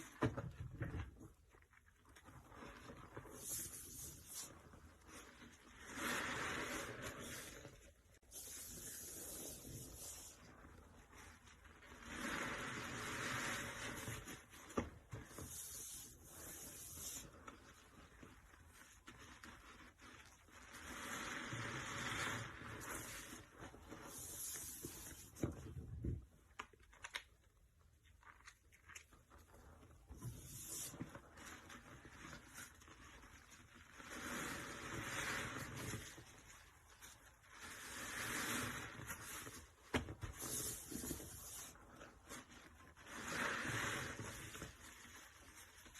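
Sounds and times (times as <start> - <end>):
wet sponge squishing: 1.1 - 25.6, 26.5 - 45.9.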